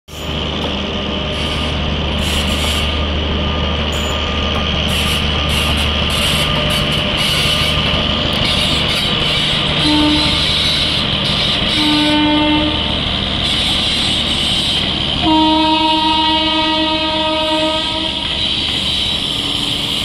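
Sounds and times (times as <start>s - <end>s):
trains rumbling: 0.1s - 20.0s.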